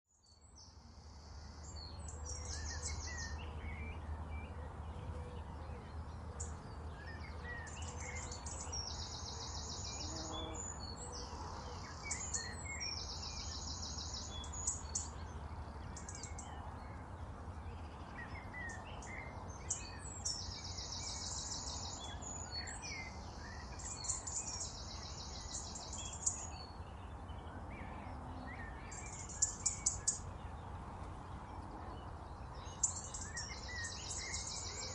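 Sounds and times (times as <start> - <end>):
birds chirping: 0.1 - 34.9.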